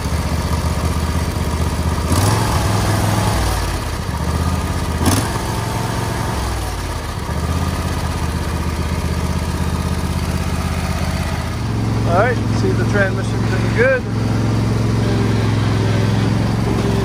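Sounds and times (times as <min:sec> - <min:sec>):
lawn tractor engine running: 0:00.0 - 0:17.0.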